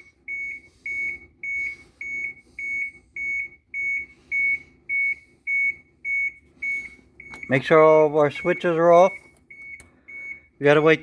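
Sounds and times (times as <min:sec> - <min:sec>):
dashboard warning buzzer beeping: 0:00.0 - 0:11.0.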